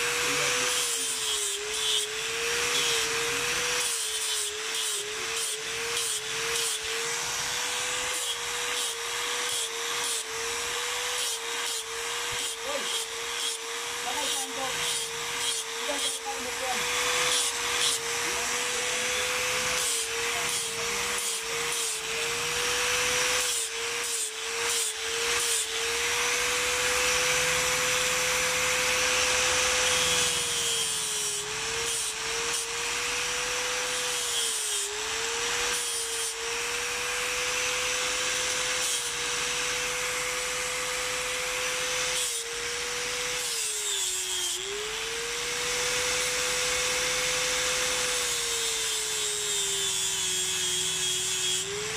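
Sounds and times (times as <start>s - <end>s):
angle grinder whining: 0.0s - 51.9s.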